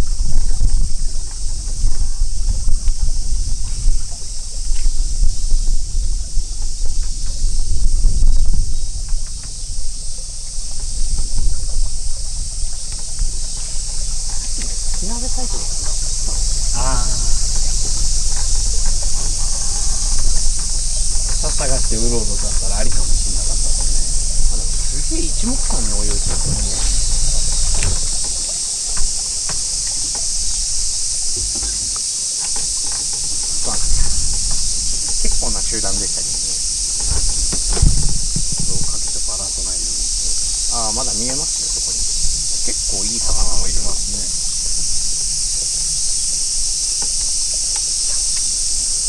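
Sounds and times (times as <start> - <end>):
high-pitched insect drone: 0.0 - 49.0
wind rumbling on microphone: 0.0 - 49.0.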